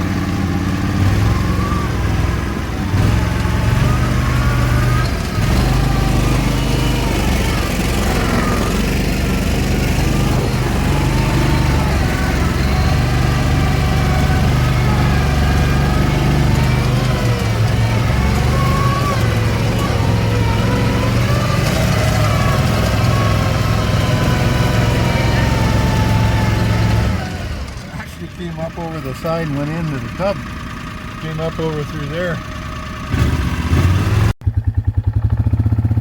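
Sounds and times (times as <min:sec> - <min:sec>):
small vehicle engine droning: 0:00.0 - 0:36.0.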